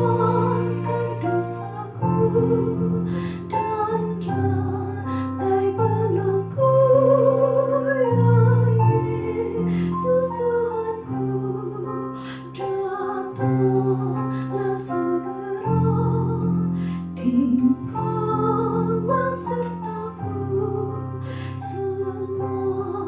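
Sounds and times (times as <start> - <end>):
woman singing a hymn: 0.0 - 23.0.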